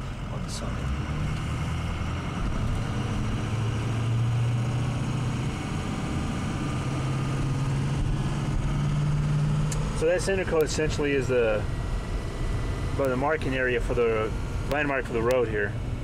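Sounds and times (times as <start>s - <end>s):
engine hum: 0.0s - 16.0s
road noise: 0.0s - 16.0s.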